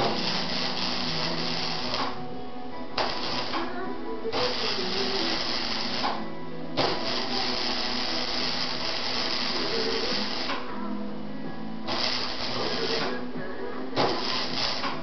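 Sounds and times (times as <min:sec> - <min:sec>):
welder arc crackling and sizzling: 0:00.0 - 0:02.3, 0:02.9 - 0:10.9, 0:11.8 - 0:15.0.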